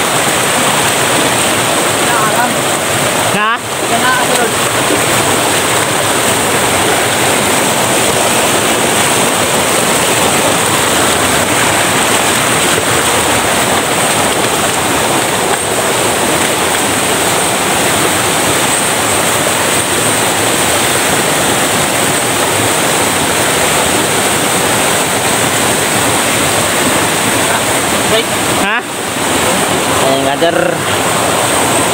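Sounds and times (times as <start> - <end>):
stream rushing over rocks: 0.0 - 31.9.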